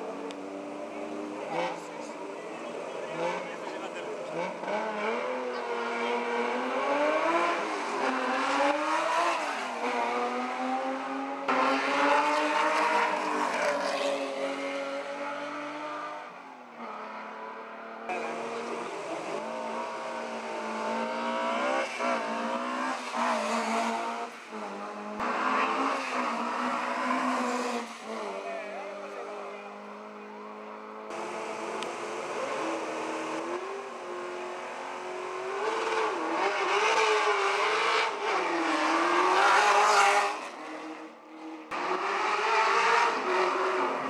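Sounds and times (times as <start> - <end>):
rally car engines revving hard: 0.0 - 44.0.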